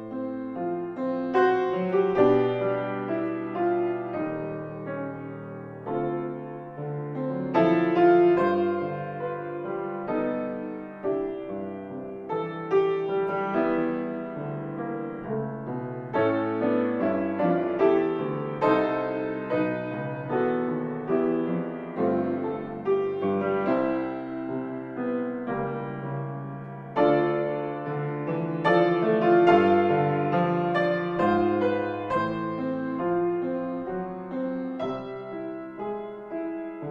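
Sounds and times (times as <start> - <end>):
piano piece: 0.0 - 36.9.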